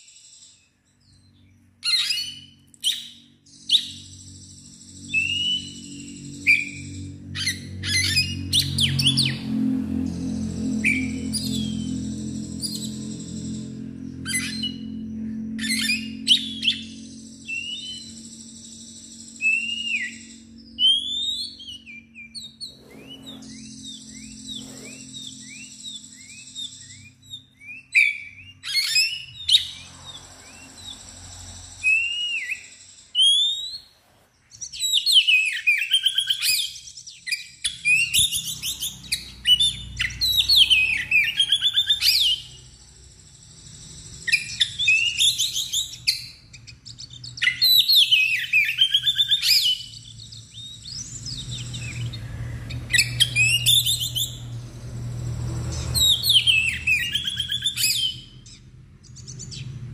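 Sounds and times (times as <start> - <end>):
bird singing whistles and chirps: 0.0 - 9.6, 10.3 - 54.7, 55.6 - 59.9.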